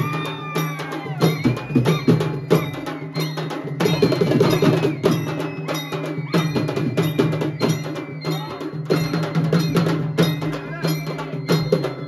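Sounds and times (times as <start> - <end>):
metallic percussion clank: 0.0 - 12.0.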